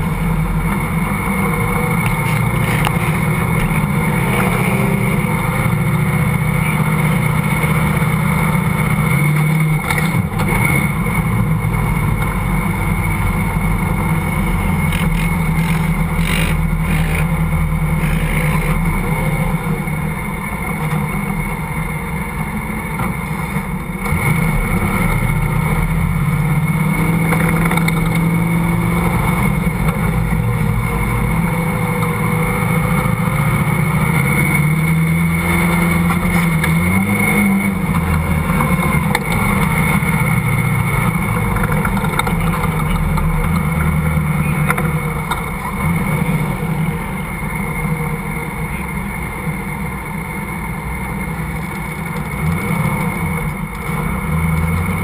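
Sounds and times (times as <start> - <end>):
car engine under load: 0.0 - 55.0.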